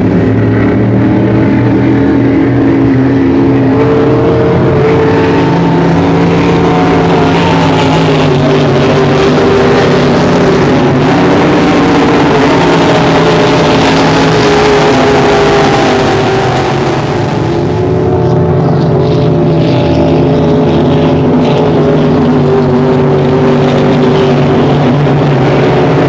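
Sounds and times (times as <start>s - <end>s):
speedboat engines at full throttle: 0.0s - 26.0s.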